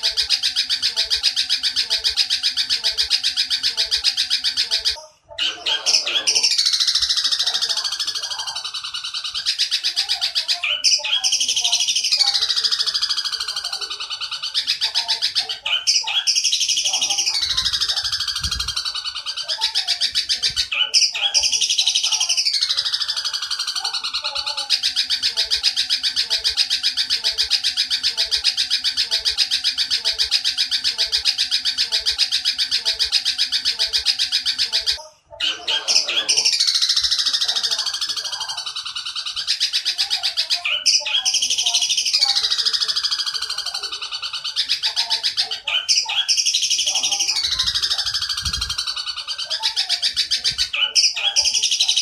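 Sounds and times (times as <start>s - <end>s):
sparrow rattling chatter: 0.0s - 52.0s.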